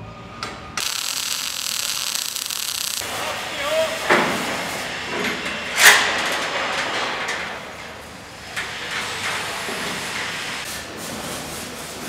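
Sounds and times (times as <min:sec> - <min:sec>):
factory hall noise: 0:00.0 - 0:12.0.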